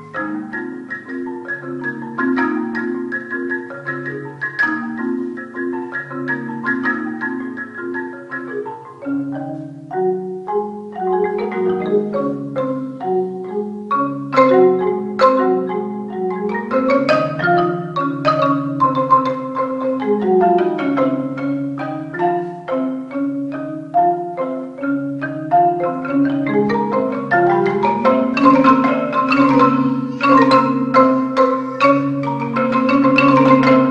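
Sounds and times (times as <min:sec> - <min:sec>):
marimba ensemble rolled notes: 0:00.0 - 0:33.9.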